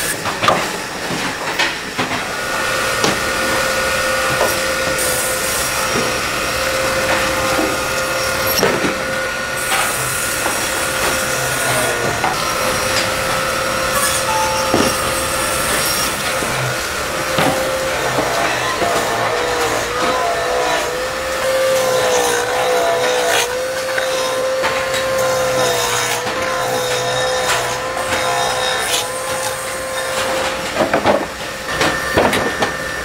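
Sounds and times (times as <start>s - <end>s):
band saw cutting frozen fish: 0.0s - 33.0s.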